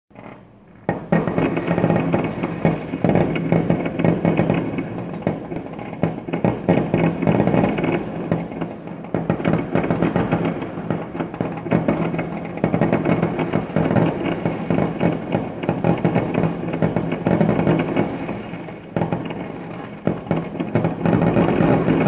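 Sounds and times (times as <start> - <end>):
fireworks crackling and popping: 0.1 - 22.0.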